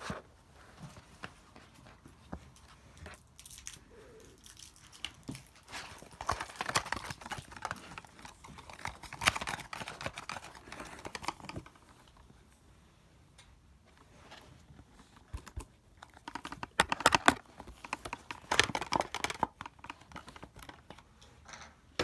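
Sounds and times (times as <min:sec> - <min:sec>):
kittens scrabbling and pattering: 0:00.0 - 0:12.4, 0:14.0 - 0:21.6.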